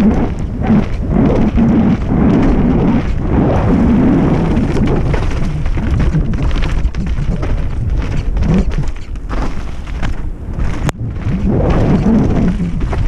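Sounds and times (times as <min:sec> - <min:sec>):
bike rumble and rattle on dirt trail: 0:00.0 - 0:13.0
wind buffeting microphone: 0:00.0 - 0:13.0.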